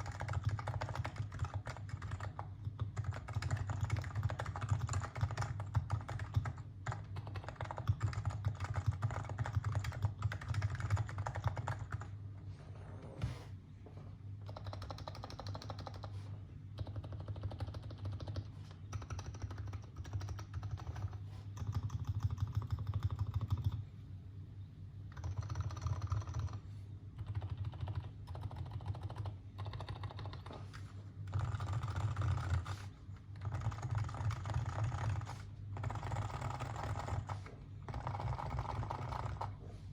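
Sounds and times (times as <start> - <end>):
keyboard typing: 0.0 - 12.1, 14.4 - 16.2, 16.8 - 23.8, 25.1 - 26.6, 27.2 - 39.6.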